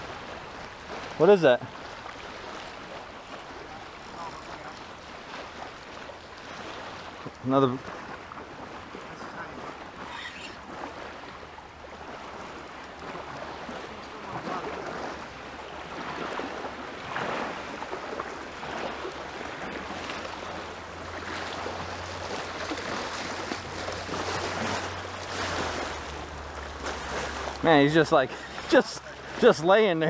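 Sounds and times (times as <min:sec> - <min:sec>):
small waves washing on sand: 0:00.0 - 0:30.0
water sloshing around legs: 0:00.0 - 0:30.0.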